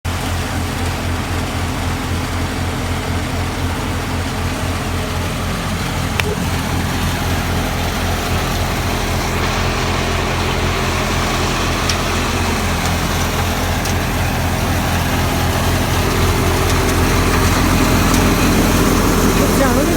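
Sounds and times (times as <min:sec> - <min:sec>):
tractor diesel engine running: 0:00.0 - 0:19.9.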